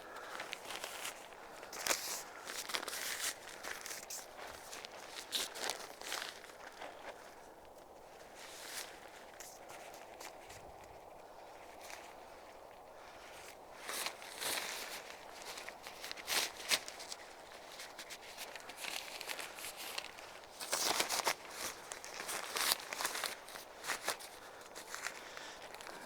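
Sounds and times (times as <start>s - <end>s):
tent rustling and shuffling: 0.0s - 26.0s.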